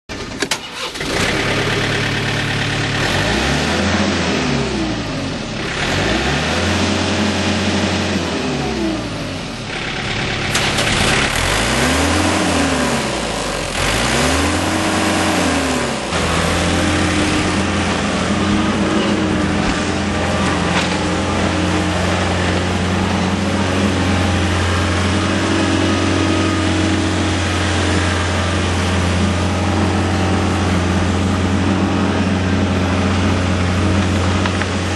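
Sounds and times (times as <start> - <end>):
diesel engine revving: 0.1 - 34.9.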